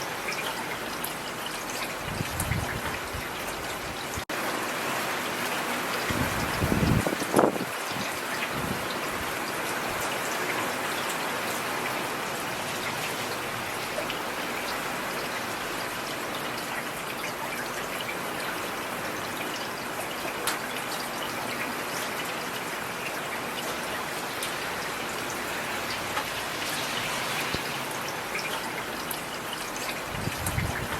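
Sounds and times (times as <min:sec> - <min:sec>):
steady rain falling: 0:00.0 - 0:30.9.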